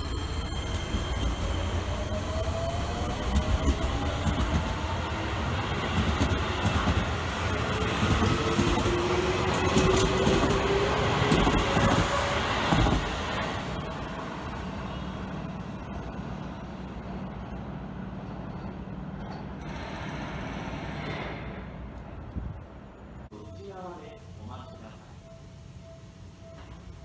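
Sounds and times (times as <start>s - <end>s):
train wheels rumbling and clicking: 0.2s - 23.3s.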